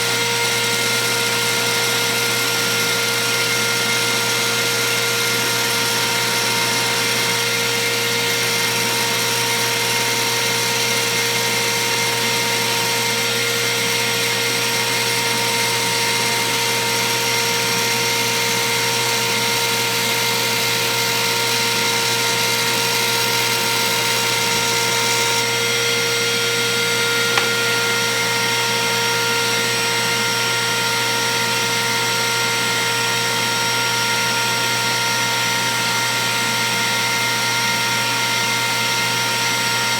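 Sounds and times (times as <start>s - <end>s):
router whining: 0.0s - 39.9s.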